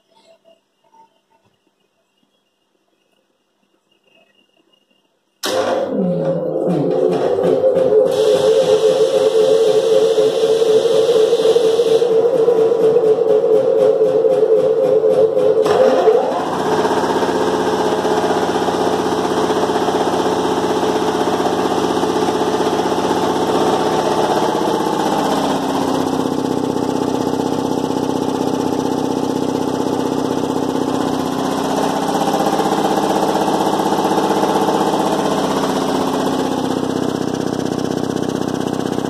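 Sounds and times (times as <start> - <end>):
air compressor running: 5.4 - 39.0.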